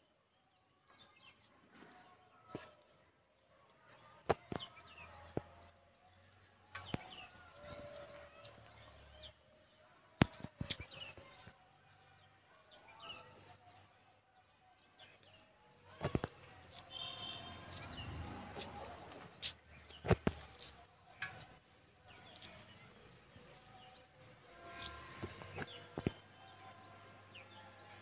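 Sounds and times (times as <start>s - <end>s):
small birds chirping: 3.8s - 14.1s, 14.7s - 28.0s.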